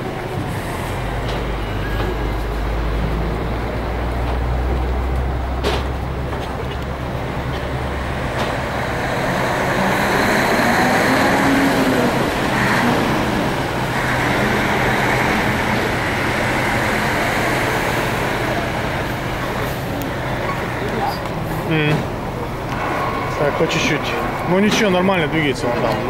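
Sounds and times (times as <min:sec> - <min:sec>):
diesel engines humming: 0:00.0 - 0:26.0
traffic noise: 0:00.0 - 0:26.0.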